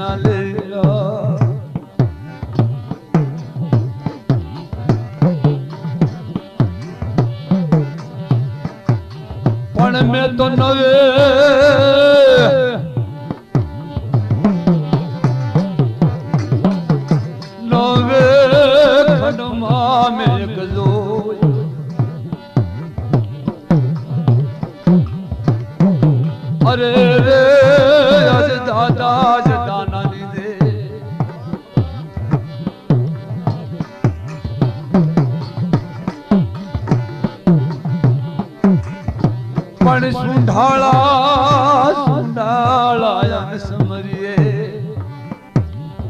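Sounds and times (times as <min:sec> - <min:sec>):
hand drum rhythm: 0:00.0 - 0:46.0
steady held instrument tone: 0:00.0 - 0:46.0.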